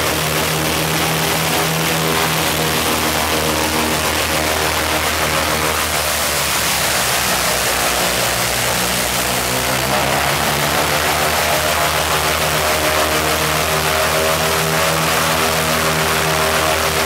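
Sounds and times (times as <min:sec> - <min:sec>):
radial piston engine running: 0:00.0 - 0:17.0.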